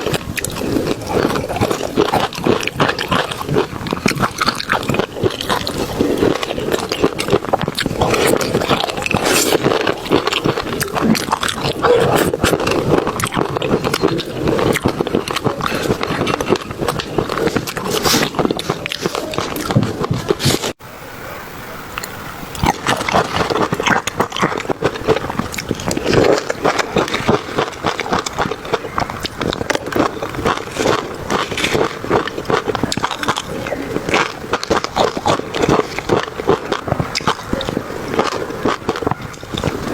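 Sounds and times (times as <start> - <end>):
crunchy chewing and bites: 0.0 - 20.8, 22.0 - 39.9.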